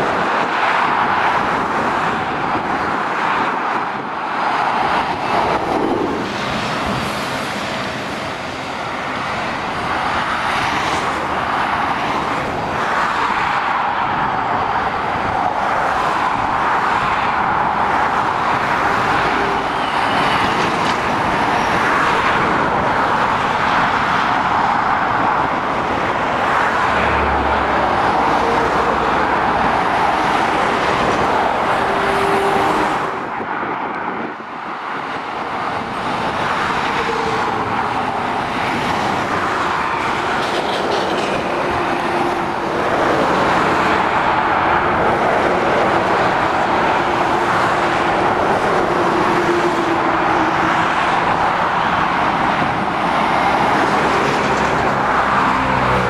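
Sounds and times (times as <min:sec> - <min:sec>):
road traffic roar: 0:00.0 - 0:56.0.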